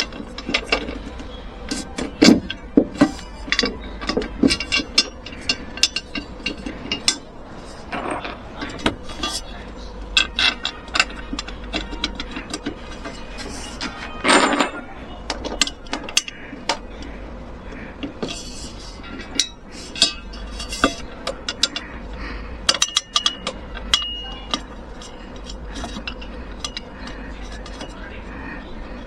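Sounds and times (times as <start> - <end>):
rattling scrape: 0.0 - 29.0.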